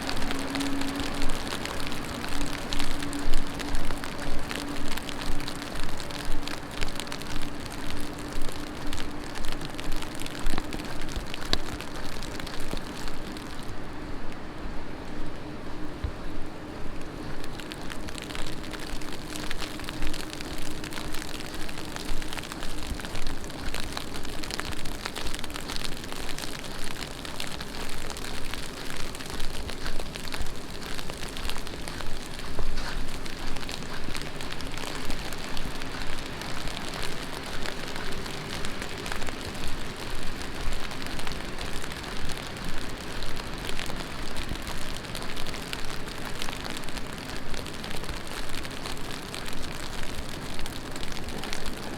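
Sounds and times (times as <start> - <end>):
heavy rain on pavement: 0.0 - 51.9.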